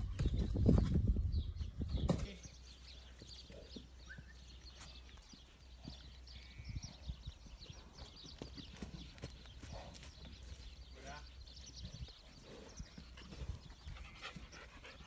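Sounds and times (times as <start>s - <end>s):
horse hooves on dirt: 0.0s - 15.0s
faint bird chirps: 2.1s - 15.0s.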